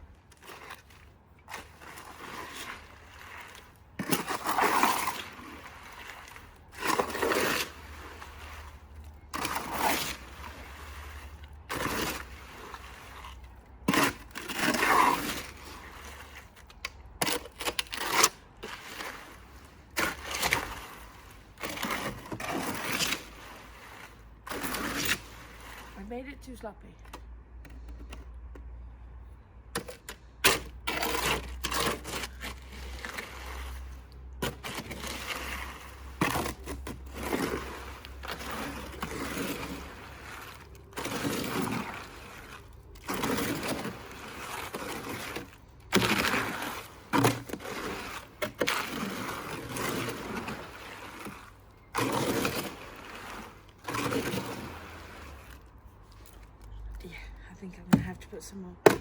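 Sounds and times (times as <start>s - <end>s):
trowel scraping wet cement: 0.0s - 26.6s, 29.8s - 56.7s, 57.7s - 59.0s.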